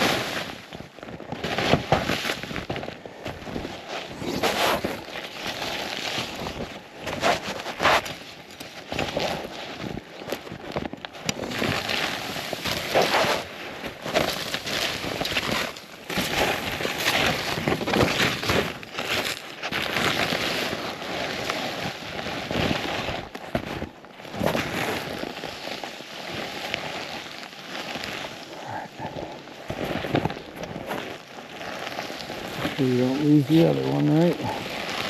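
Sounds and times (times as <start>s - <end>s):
snowshoe steps crunching snow: 0.0s - 35.0s.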